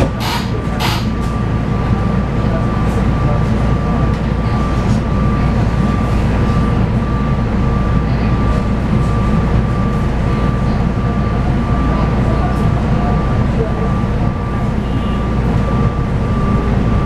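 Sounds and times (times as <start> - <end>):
train rumbling along track: 0.0 - 17.0
thin steady whine: 1.3 - 17.0.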